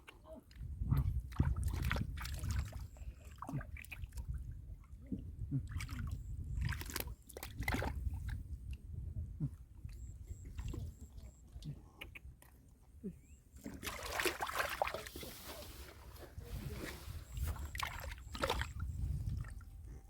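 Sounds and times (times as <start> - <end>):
muddy water sloshing and splashing: 0.0 - 9.2, 9.8 - 20.0.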